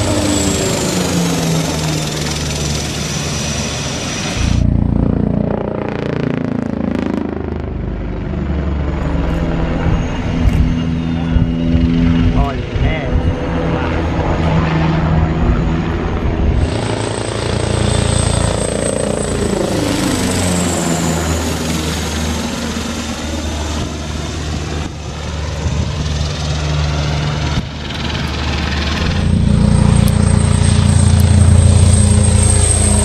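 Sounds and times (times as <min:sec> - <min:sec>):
helicopter rotor beat: 0:00.0 - 0:33.0
turbine whine: 0:00.0 - 0:33.0.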